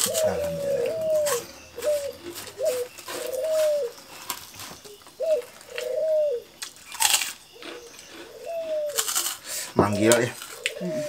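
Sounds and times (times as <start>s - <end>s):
dove cooing: 0.0s - 6.6s, 7.5s - 11.0s.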